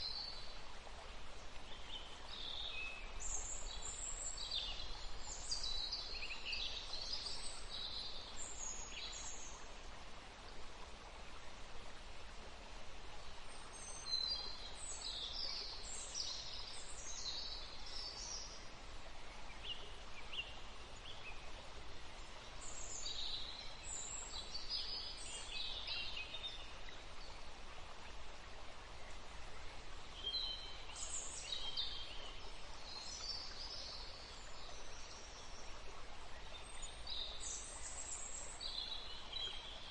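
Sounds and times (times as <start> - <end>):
flowing water hiss: 0.0 - 39.9.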